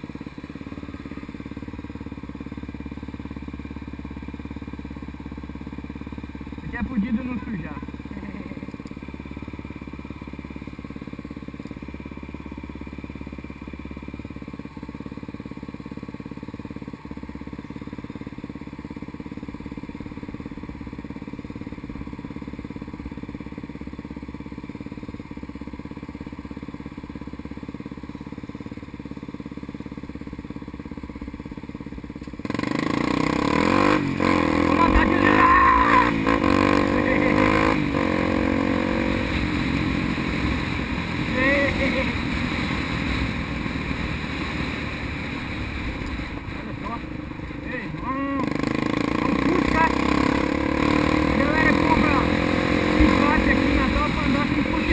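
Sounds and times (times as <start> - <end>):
motorcycle engine idling and revving: 0.0 - 54.9.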